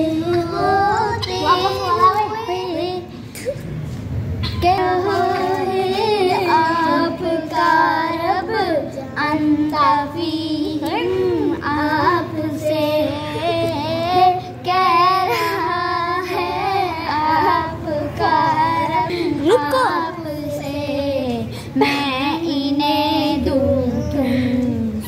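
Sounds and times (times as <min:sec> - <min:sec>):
children singing: 0:00.0 - 0:03.2, 0:04.4 - 0:25.0.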